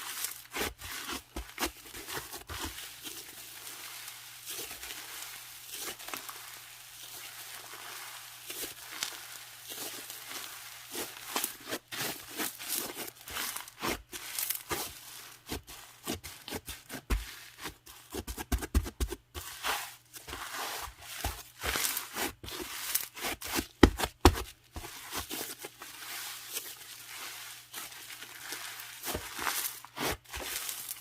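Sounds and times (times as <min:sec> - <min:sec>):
slime crackling and crunching: 0:00.0 - 0:16.5, 0:19.4 - 0:31.0.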